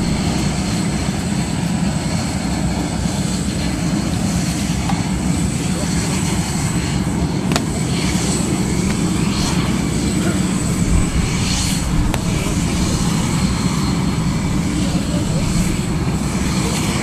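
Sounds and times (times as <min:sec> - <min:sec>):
aircraft engine rumble: 0:00.0 - 0:17.0
faint voices: 0:00.0 - 0:17.0.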